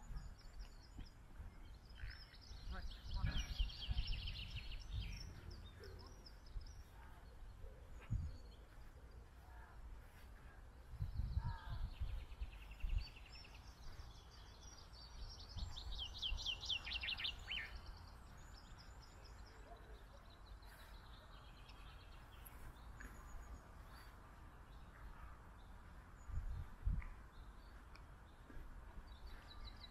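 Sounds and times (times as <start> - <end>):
songbirds singing: 0.0 - 29.9.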